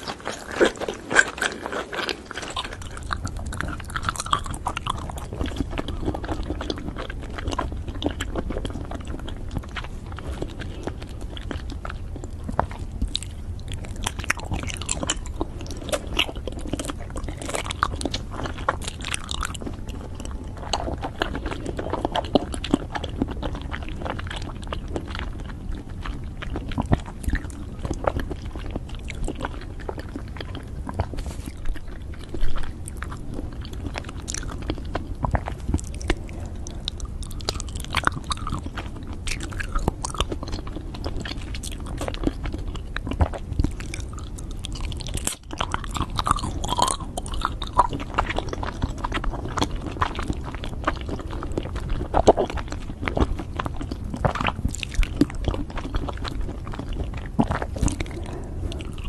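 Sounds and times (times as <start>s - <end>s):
person chewing with mouth clicks: 0.0s - 59.0s.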